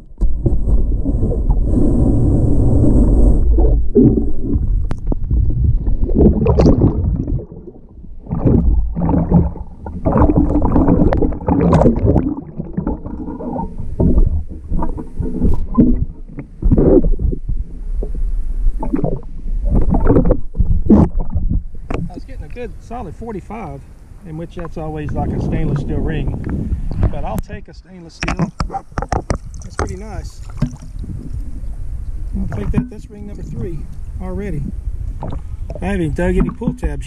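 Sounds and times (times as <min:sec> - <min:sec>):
water sloshing and gurgling: 0:00.0 - 0:23.4, 0:24.4 - 0:27.4, 0:28.2 - 0:37.0.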